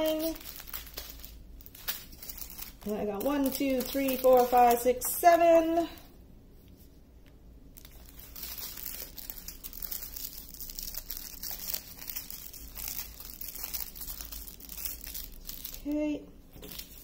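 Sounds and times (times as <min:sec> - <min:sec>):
plastic bags crinkling: 0:00.0 - 0:06.0, 0:07.7 - 0:17.0.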